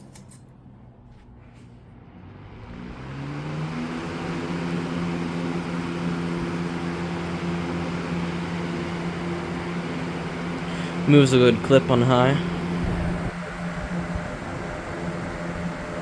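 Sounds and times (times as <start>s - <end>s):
box fan motor hum: 0.0s - 16.0s.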